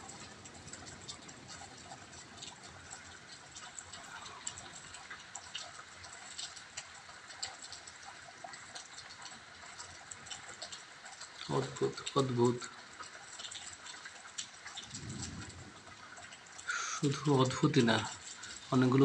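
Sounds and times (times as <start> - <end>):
raindrops ticking: 0.0 - 19.0
steady rain hiss: 0.0 - 19.0.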